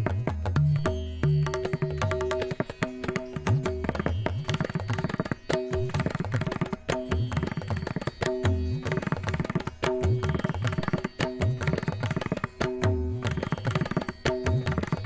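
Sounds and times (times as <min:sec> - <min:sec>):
fast hand-drum rhythm: 0:00.0 - 0:15.0.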